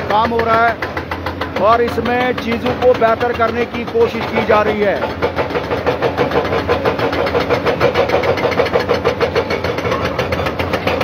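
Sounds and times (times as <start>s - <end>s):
excavator diesel engines running: 0.0s - 11.0s.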